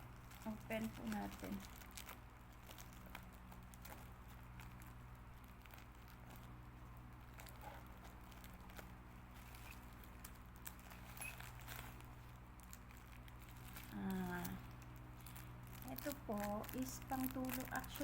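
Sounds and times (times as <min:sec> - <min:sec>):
low electrical hum: 0:00.0 - 0:18.0
plastic bag crinkling: 0:00.0 - 0:18.0.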